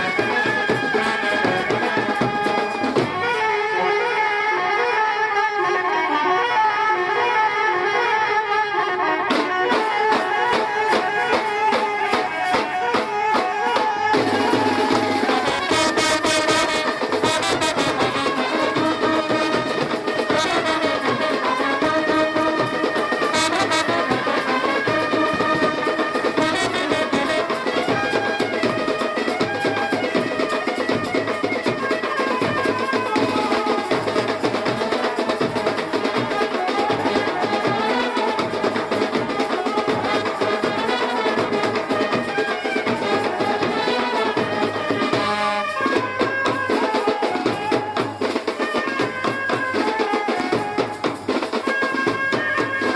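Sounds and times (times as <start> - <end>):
music with drum beat and brass: 0.0 - 52.9.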